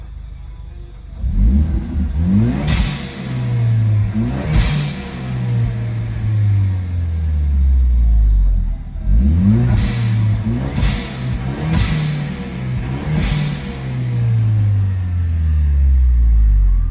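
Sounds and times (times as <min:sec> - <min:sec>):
car engine revving: 0:01.0 - 0:16.9.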